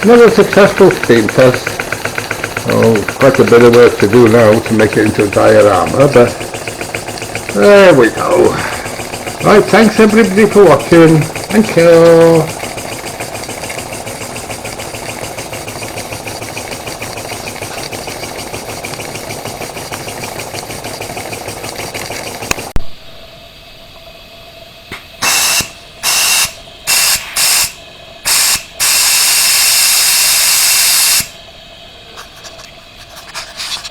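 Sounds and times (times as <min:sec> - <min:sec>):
steam hiss blasts: 0:00.0 - 0:22.7, 0:24.8 - 0:31.4
steam engine chuffing: 0:00.0 - 0:22.8, 0:25.2 - 0:31.4.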